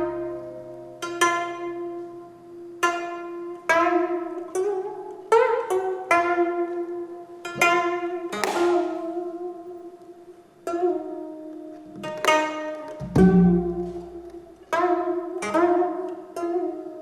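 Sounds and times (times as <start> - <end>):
plucked zither notes: 0.0 - 17.0.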